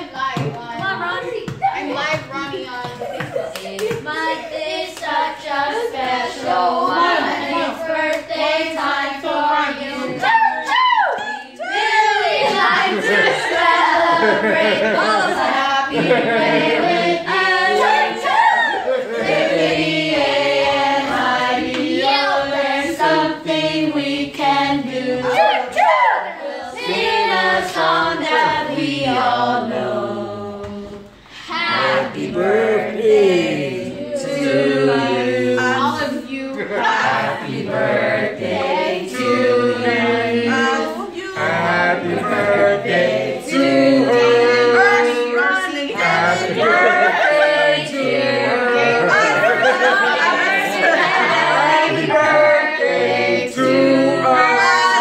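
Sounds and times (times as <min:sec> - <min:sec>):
group singing a celebration song: 0:00.0 - 0:55.0.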